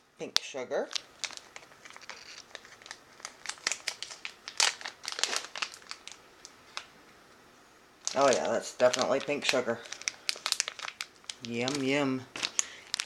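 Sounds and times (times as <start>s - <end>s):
plastic packaging crinkling: 0.2s - 7.0s, 8.0s - 13.0s.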